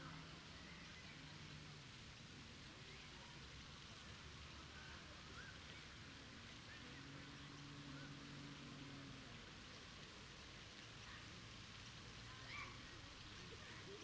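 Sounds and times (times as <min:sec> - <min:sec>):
water fountain hissing: 0:00.0 - 0:14.0.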